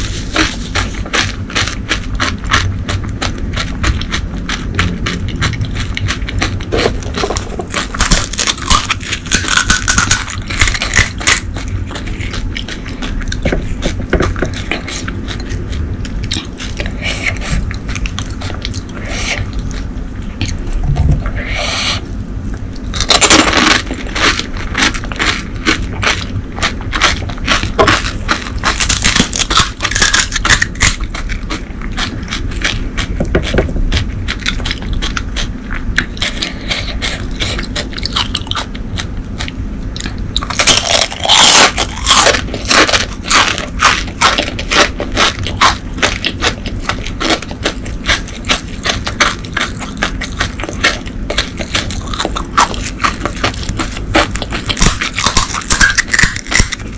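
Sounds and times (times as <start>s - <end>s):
crisp shells crunching: 0.0s - 19.8s, 22.8s - 56.9s.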